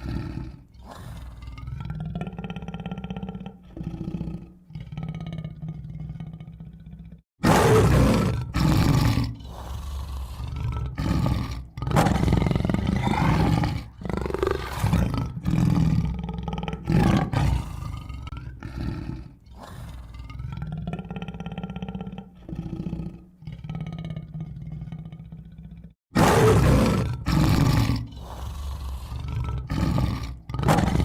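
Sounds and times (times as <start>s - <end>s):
tiger roaring: 0.0s - 31.0s.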